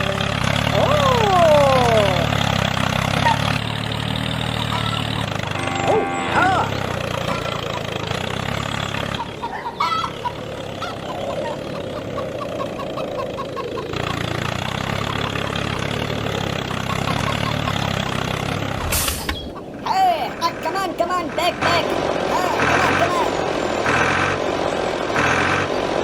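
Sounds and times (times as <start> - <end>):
chickens clucking: 0.0 - 23.6.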